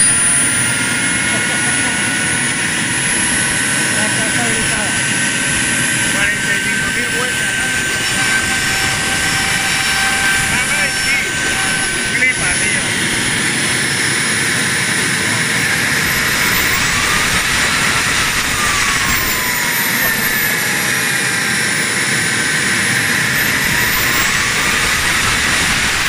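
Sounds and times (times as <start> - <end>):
jet engine whining roar: 0.0 - 26.0.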